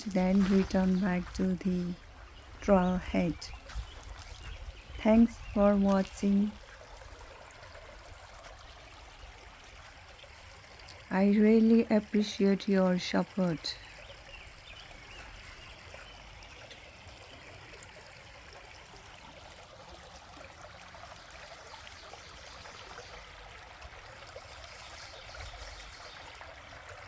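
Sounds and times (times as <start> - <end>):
stream trickling: 0.0 - 27.0.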